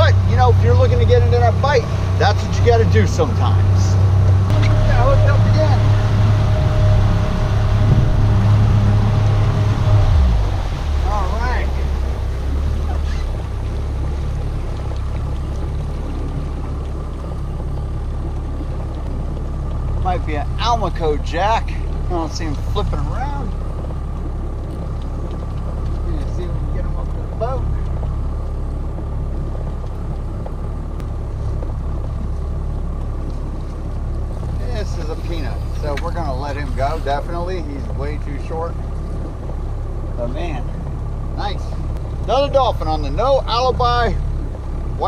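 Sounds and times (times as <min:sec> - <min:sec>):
boat engine idling: 0:00.0 - 0:45.0.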